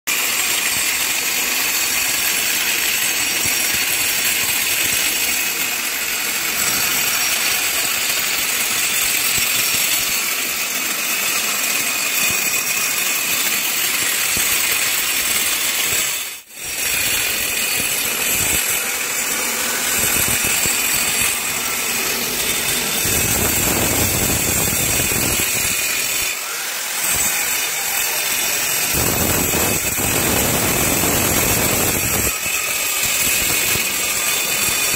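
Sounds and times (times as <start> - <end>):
angle grinder cutting brick: 0.1 - 34.9.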